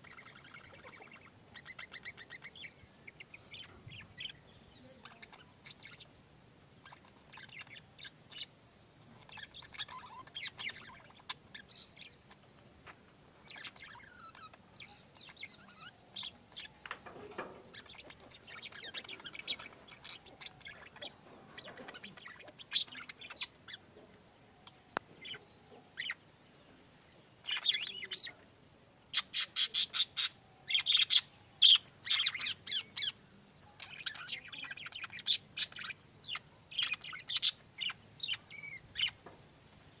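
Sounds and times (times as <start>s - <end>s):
budgerigars chattering: 0.0s - 24.0s, 24.6s - 26.2s, 27.4s - 28.4s, 29.1s - 39.3s.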